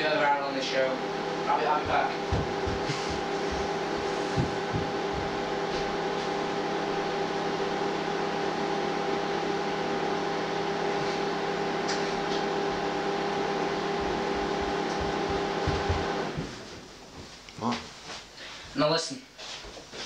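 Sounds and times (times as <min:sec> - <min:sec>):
machine hum: 0:00.0 - 0:17.1.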